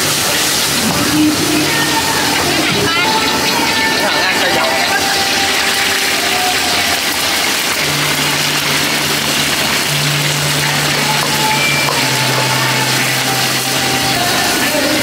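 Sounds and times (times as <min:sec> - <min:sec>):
gas burner: 0:00.0 - 0:15.0
hot oil sizzling in a wok: 0:00.0 - 0:15.0.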